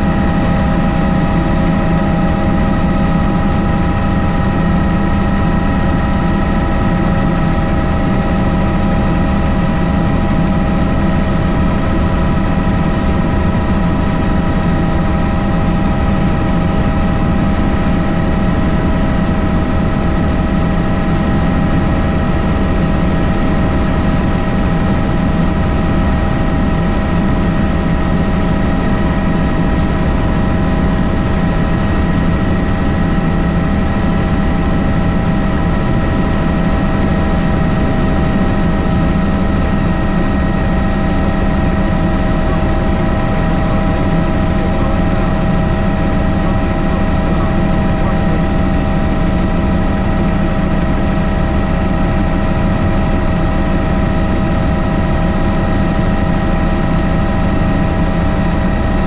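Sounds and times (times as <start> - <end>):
helicopter rotor drone: 0.0 - 59.0
helicopter turbine whine: 0.0 - 59.0.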